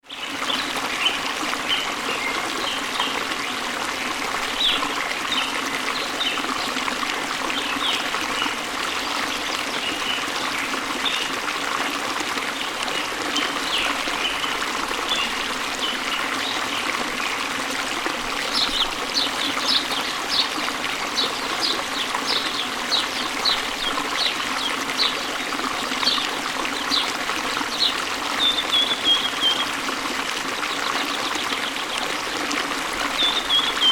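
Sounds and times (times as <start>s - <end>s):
water trickling and splashing: 0.0s - 33.9s.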